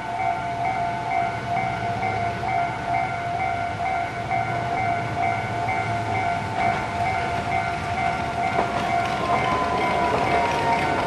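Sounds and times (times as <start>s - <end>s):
level-crossing alarm dinging: 0.0s - 11.0s
tram clattering over rails: 0.0s - 11.0s.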